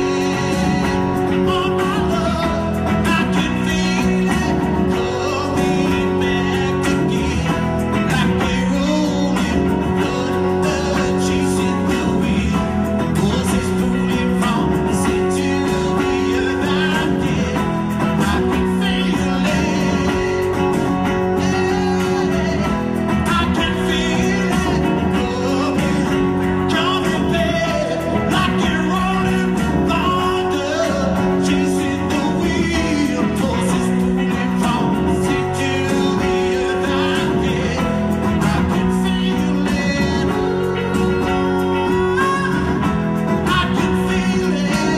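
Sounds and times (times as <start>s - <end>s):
guitar: 0.0s - 44.9s
man singing: 0.0s - 44.9s.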